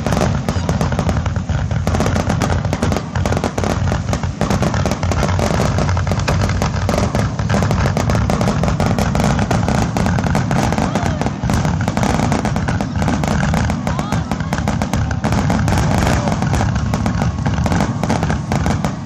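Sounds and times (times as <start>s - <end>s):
deep rumble: 0.0s - 19.0s
fireworks bursts and crackling: 0.0s - 19.0s.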